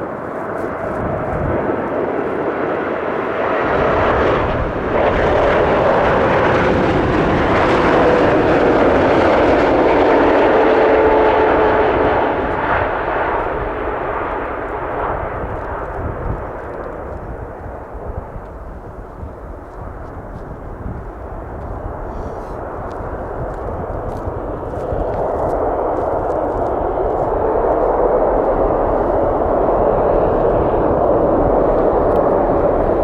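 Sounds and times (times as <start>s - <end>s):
jet aircraft passing: 0.0s - 33.0s.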